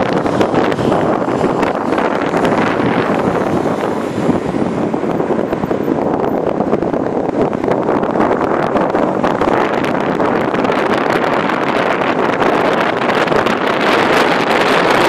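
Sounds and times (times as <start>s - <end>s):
car road and engine noise: 0.0s - 15.0s
wind buffeting microphone: 0.0s - 15.0s.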